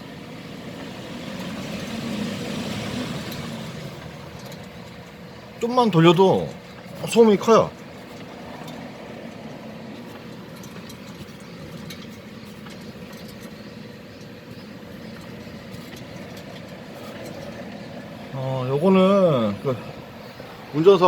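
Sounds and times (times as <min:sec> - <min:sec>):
wheel bearing droning: 0:00.0 - 0:21.0.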